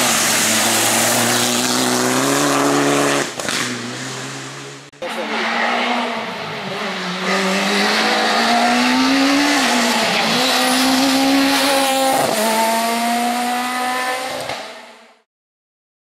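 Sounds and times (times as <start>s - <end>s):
rally car engine revving: 0.0s - 15.2s.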